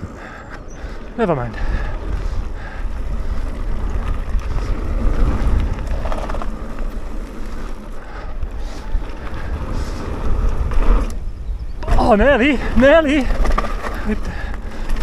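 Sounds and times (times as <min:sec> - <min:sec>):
tyres rumbling on dirt: 0:00.0 - 0:15.0
wind rushing over microphone: 0:00.0 - 0:15.0.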